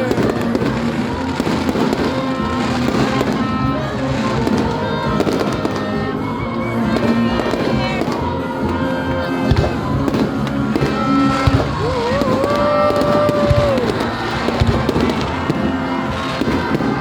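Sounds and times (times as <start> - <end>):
fireworks bursting and crackling: 0.0 - 17.0
music playing: 0.0 - 17.0.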